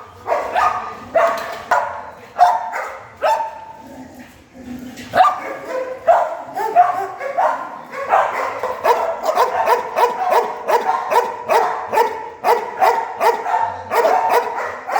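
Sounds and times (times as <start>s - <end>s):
dog barking: 0.0s - 3.7s, 5.2s - 14.9s.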